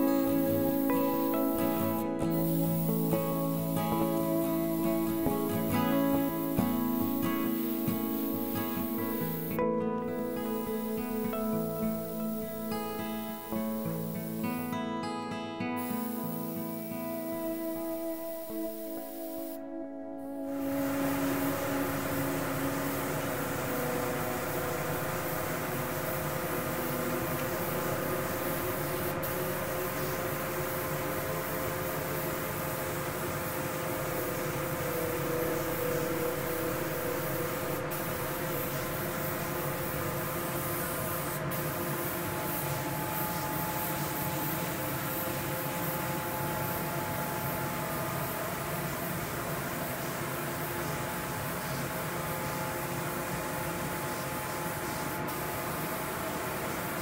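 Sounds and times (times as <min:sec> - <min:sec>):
steady machine hum: 0:00.0 - 0:14.8, 0:16.0 - 0:50.3
air hissing: 0:00.0 - 0:14.9, 0:15.6 - 0:19.6, 0:20.3 - 0:52.6.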